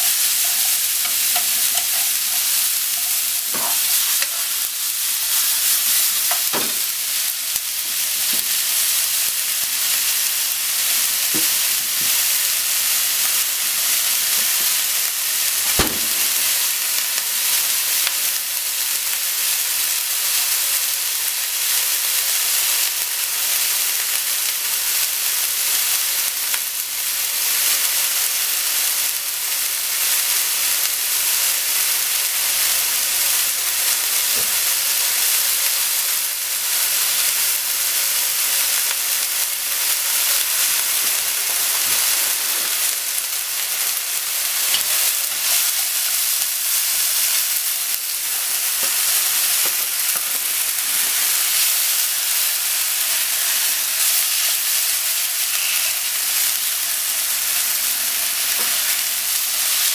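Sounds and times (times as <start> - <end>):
meat and onion sizzling in pan: 0.0 - 59.9.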